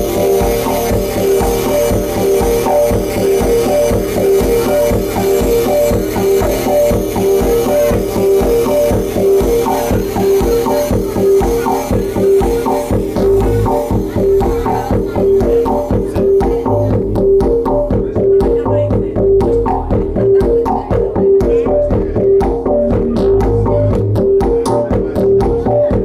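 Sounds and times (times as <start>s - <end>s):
electronic music with pitched notes: 0.0s - 26.0s
pulsing electronic beat: 0.0s - 26.0s.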